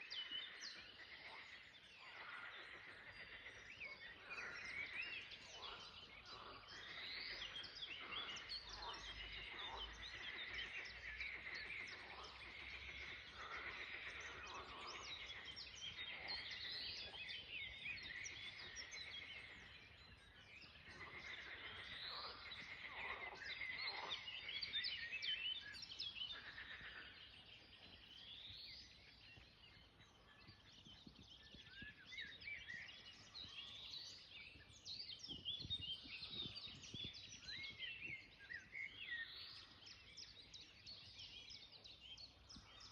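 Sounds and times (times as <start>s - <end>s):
many birds chirping: 0.0s - 42.9s.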